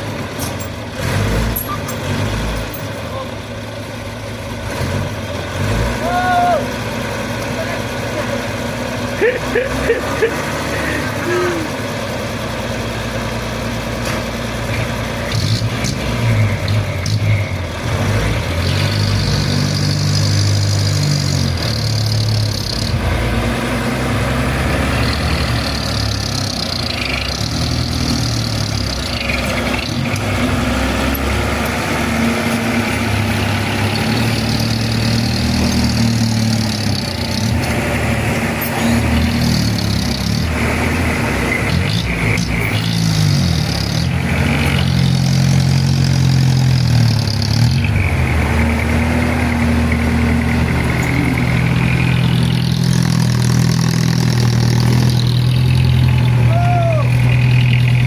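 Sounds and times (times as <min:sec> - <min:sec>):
diesel engine revving: 0:00.0 - 0:58.0.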